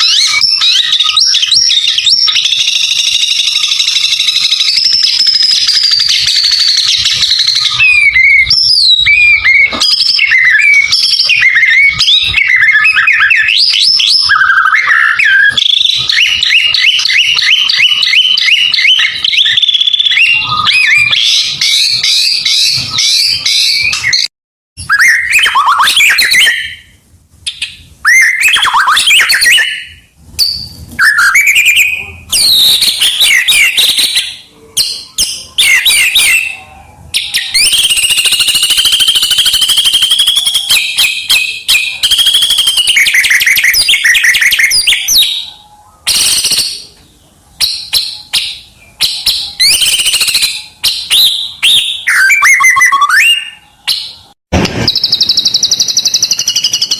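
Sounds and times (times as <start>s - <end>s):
bird singing varied whistles: 0.0s - 47.0s, 47.6s - 56.9s.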